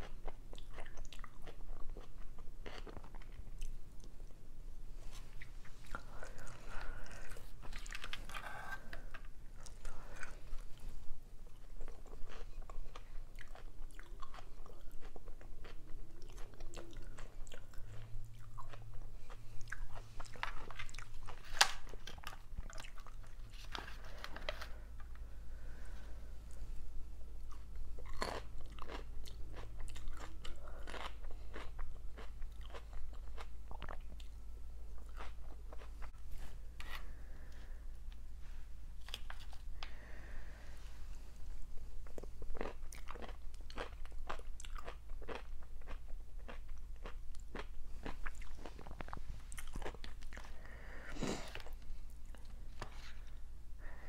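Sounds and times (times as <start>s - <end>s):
person chewing and crunching food: 0.0s - 4.4s, 5.0s - 26.7s, 27.4s - 54.0s.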